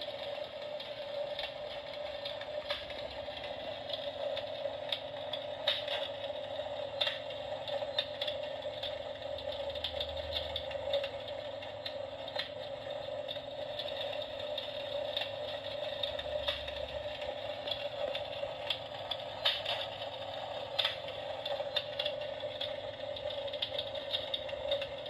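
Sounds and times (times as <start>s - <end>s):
electric fireplace hum: 0.0s - 25.0s
small clicks and crackles: 0.0s - 25.0s.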